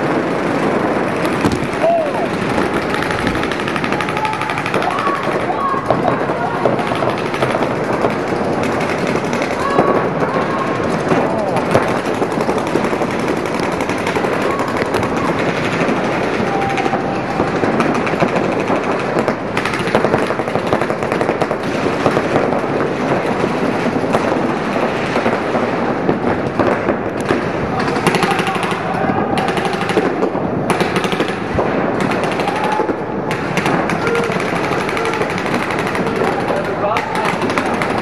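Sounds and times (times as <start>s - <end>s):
paintball markers firing: 1.0s - 25.6s, 26.5s - 38.0s.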